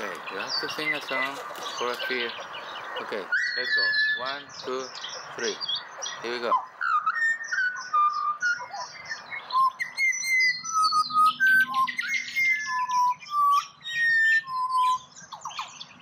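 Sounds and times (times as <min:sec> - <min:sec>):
birds whistling notes: 0:00.0 - 0:16.0
high bird chirping: 0:00.0 - 0:16.0.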